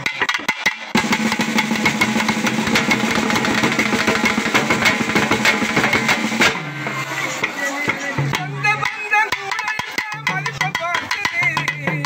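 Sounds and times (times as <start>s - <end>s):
folk drums beating fast: 0.0s - 12.0s.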